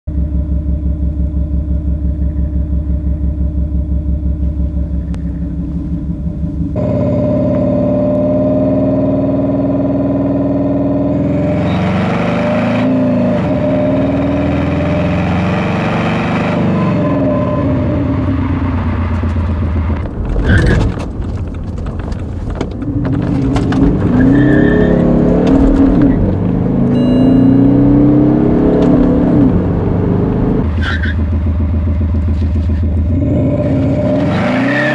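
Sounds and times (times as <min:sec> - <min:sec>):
car engine revving: 0:00.8 - 0:34.9.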